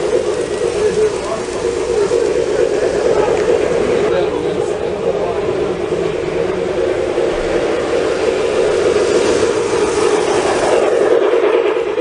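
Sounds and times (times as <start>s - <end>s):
model trains running on track: 0.0s - 12.0s.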